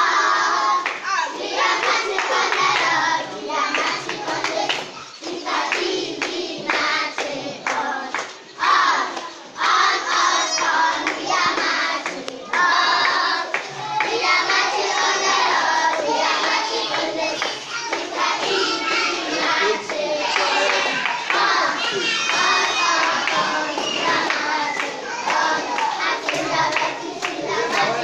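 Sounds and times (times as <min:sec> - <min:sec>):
children singing in chorus: 0:00.0 - 0:28.0
hand clapping: 0:00.8 - 0:03.0, 0:03.7 - 0:08.4, 0:09.1 - 0:28.0.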